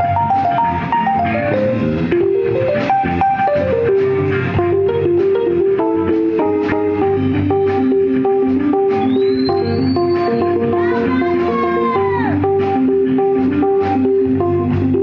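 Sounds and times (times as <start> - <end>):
funk jazz band playing: 0.0 - 15.0.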